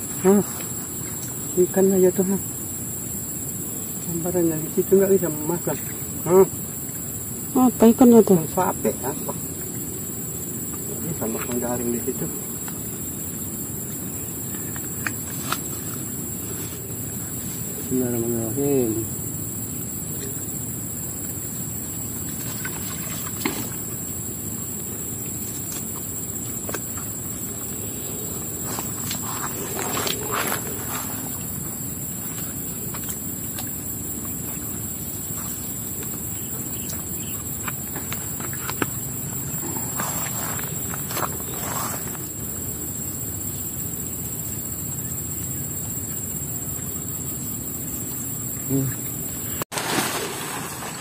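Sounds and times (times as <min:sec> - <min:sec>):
high-pitched insect drone: 0:00.0 - 0:51.0.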